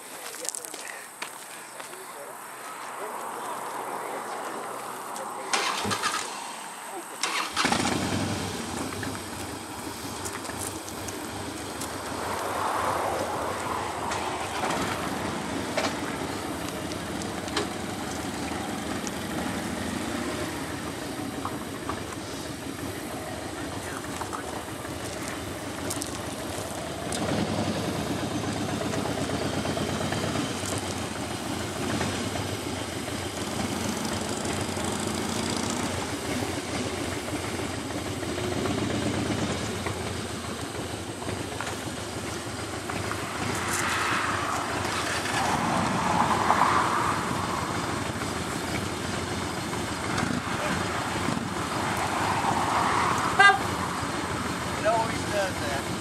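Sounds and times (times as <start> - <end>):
motorcycle engines idling: 0.0 - 56.0.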